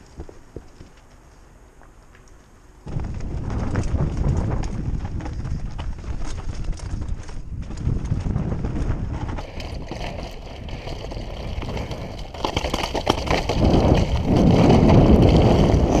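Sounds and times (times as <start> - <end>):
bike rattling over stones: 2.1 - 16.0
tyres rumbling over ground: 2.8 - 16.0
wind buffeting microphone: 2.8 - 16.0.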